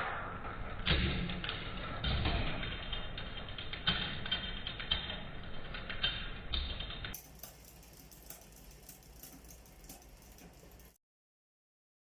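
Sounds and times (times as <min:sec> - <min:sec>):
bike chain clicking and rattling: 0:00.9 - 0:11.0.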